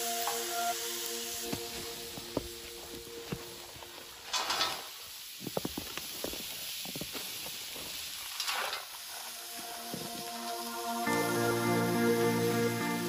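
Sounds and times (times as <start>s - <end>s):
meat sizzling on a griddle: 0.0s - 12.8s.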